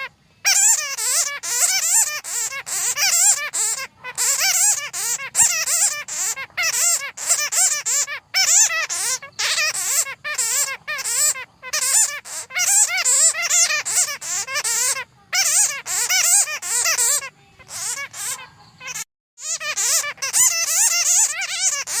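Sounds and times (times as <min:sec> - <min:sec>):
bats squeaking: 0:00.0 - 0:22.0.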